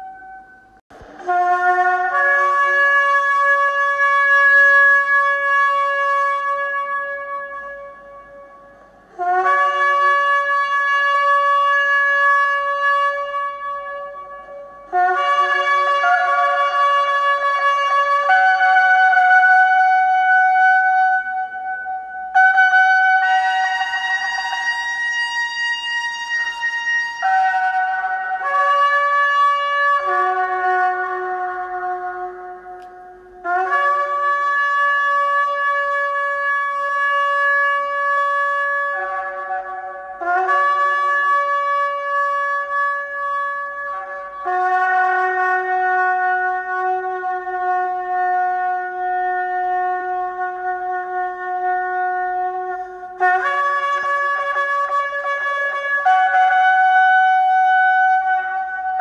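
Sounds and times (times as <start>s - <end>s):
ram's horn blasts: 0.0s - 59.0s.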